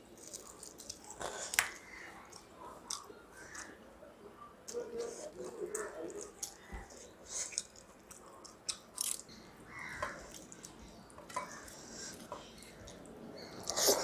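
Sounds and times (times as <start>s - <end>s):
soft chewing: 0.0s - 14.0s.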